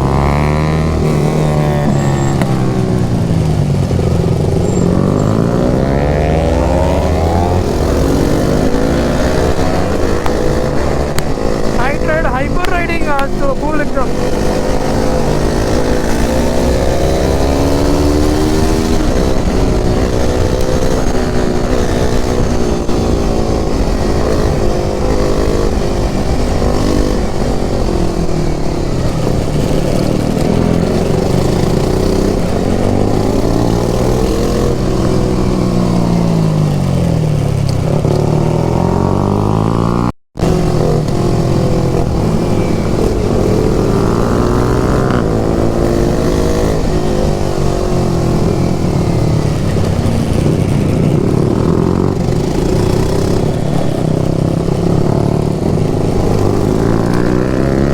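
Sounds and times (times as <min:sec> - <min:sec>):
low wind rumble: 0:00.0 - 0:57.9
motorcycle engine accelerating: 0:00.0 - 0:57.9.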